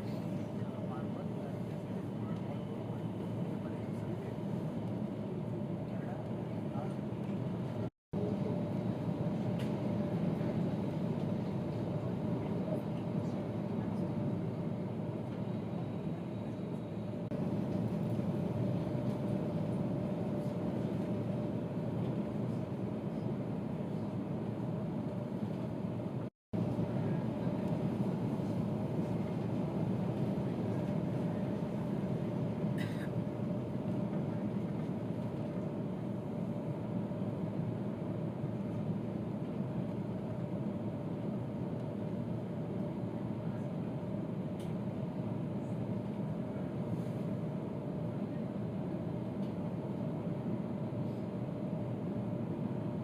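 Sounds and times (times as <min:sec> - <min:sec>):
train carriage rumble and hum: 0:00.0 - 0:53.0.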